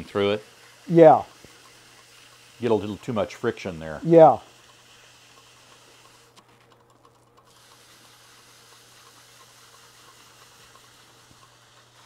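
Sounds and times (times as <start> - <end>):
polishing pad hissing: 0.0 - 6.4, 7.5 - 12.0
wood lathe humming: 0.0 - 6.5, 7.4 - 12.0.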